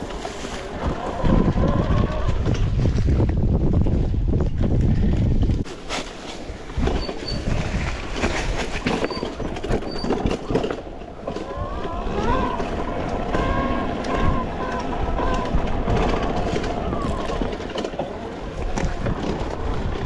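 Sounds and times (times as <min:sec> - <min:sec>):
bike clattering and rattling: 0:00.0 - 0:20.0.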